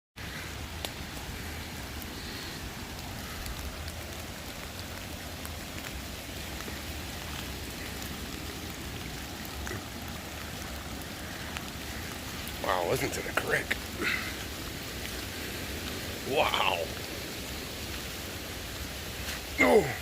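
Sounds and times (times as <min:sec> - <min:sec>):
creek rushing: 0:00.2 - 0:20.0.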